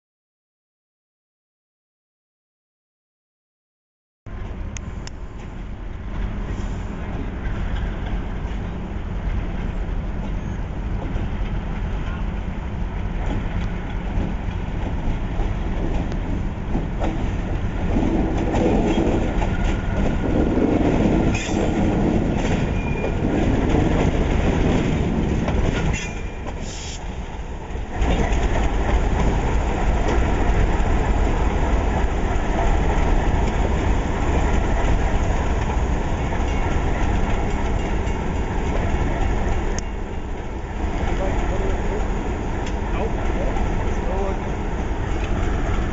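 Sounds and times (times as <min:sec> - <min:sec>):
diesel locomotive engine running: 0:04.3 - 0:45.9.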